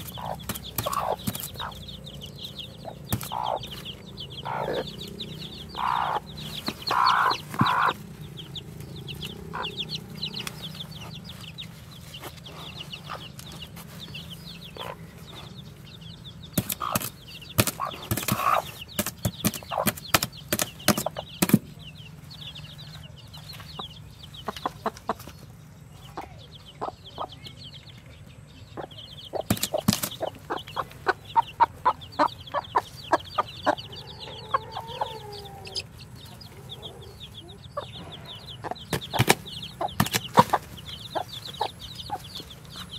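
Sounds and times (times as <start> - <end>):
chicks peeping: 0.0 - 42.9
hen clucking: 0.0 - 42.9.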